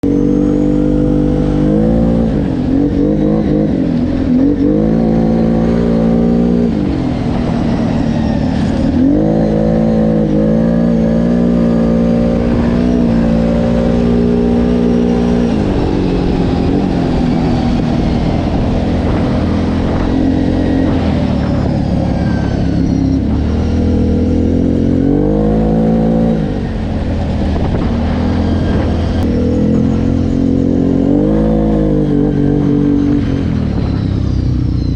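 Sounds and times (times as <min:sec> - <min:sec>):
off-road vehicle engine revving: 0:00.0 - 0:34.9.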